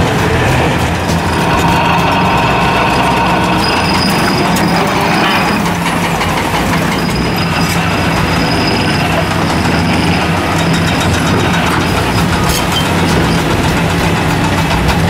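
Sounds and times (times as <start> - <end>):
excavator engine under load: 0.0 - 15.0
vibrating ripper hammering rock: 0.0 - 15.0.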